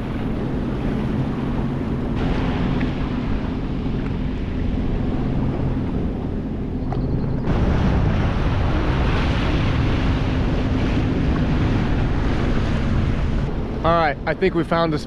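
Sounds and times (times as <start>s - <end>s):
jet ski engine running: 0.0s - 15.0s
water washing around hull: 0.0s - 15.0s
wind on microphone: 0.0s - 15.0s.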